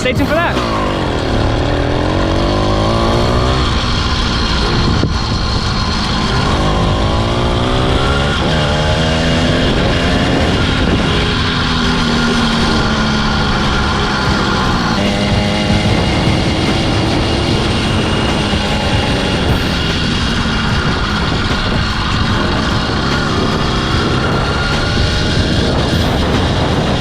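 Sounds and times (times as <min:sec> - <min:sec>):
two-stroke bicycle engine running: 0:00.0 - 0:27.0.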